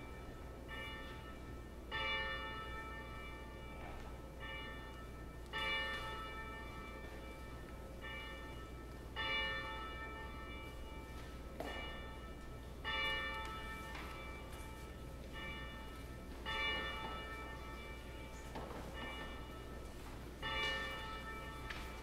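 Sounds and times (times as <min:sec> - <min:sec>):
church bell ringing: 0:00.0 - 0:22.0.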